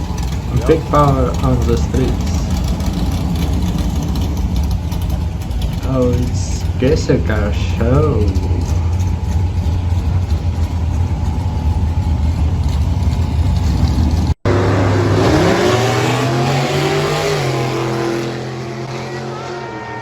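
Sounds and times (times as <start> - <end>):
drag car engine rumbling: 0.0 - 20.0
engine revving up: 0.0 - 20.0.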